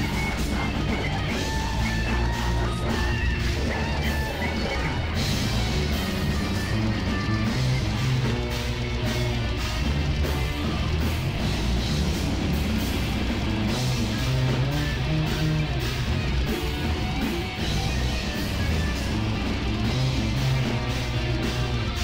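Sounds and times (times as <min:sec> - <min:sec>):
heavy metal band playing: 0:00.0 - 0:22.0.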